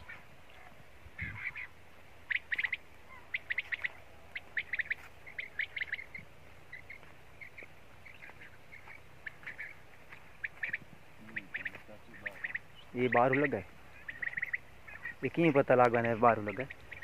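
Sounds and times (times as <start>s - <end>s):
quail calling: 0.0s - 17.0s.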